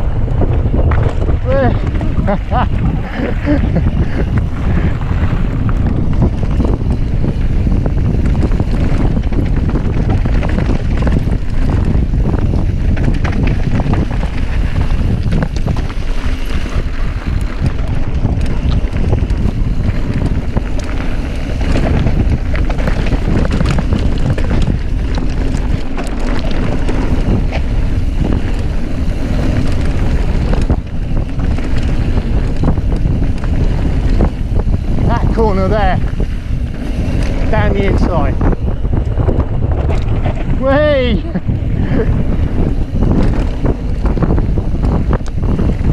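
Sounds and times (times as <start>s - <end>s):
bike rattles and knocks: 0.0s - 45.9s
wind rushing over microphone: 0.0s - 45.9s.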